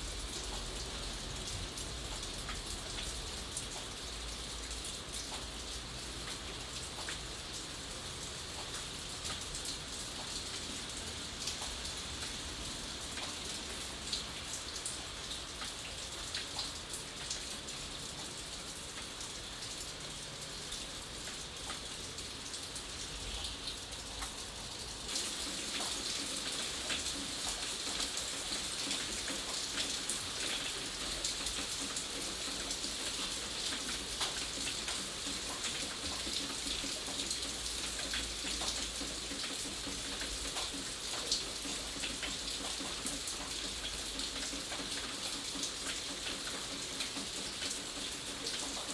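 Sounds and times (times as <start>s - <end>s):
steady rain: 0.0s - 48.9s
raindrops ticking: 0.1s - 48.9s.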